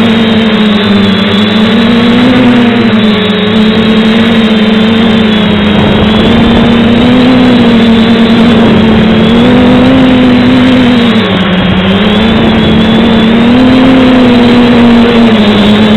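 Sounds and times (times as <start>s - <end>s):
drone propellers buzzing: 0.0s - 15.9s.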